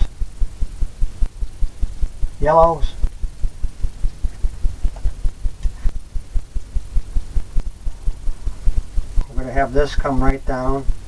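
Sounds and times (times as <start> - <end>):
rhythmic throbbing hum: 0.0 - 11.0.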